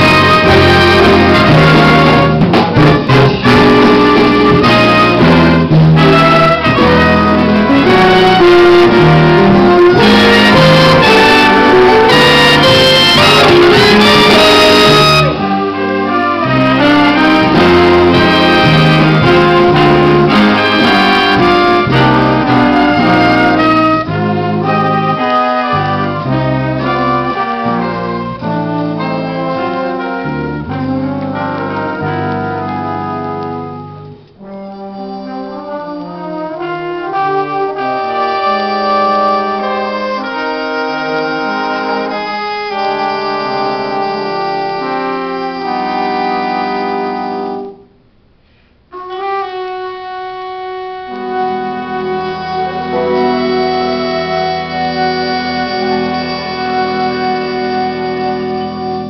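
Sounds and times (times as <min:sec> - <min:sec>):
jazz big band playing: 0:00.0 - 0:48.0, 0:48.9 - 0:59.0.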